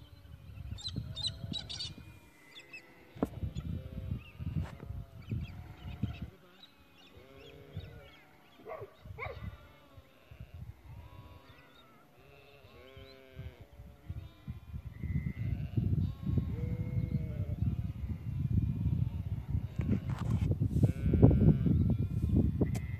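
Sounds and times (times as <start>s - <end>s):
sheep bleating: 2.4s - 19.1s, 20.8s - 22.9s.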